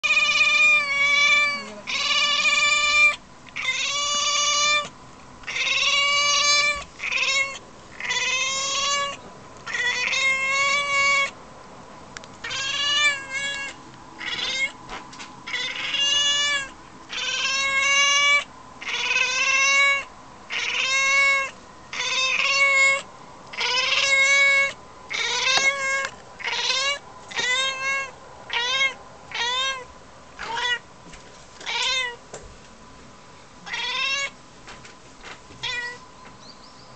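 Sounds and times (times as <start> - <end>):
cat meowing: 0.0 - 11.4, 12.4 - 14.8, 15.5 - 30.8, 31.6 - 32.2, 33.6 - 34.4, 35.6 - 36.0.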